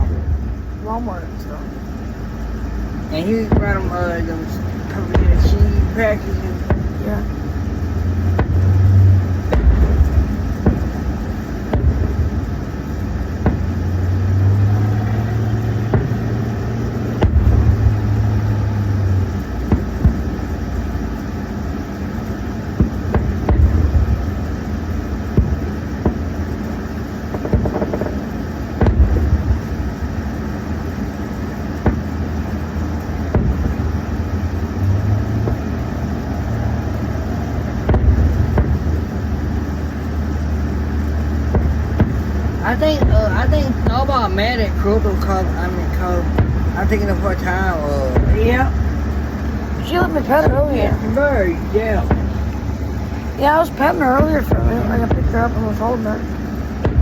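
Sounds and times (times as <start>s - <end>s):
firework booms and pops: 0.0s - 1.0s, 1.9s - 57.0s
distant fireworks rumble: 0.0s - 57.0s.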